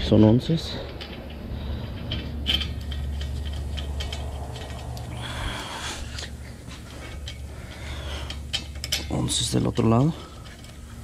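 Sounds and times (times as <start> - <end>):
bolts and brackets rattling: 0.0 - 11.0
low hum: 0.7 - 11.0.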